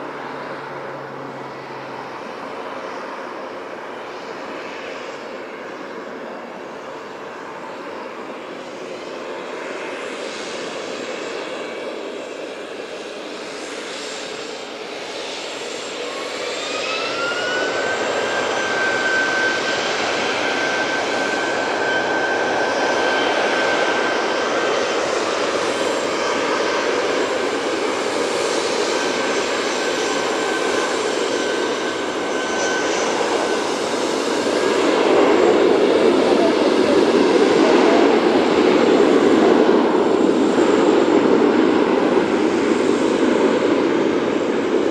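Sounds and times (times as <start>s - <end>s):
engine whine: 0.0s - 44.9s
jet engines running: 0.0s - 44.9s.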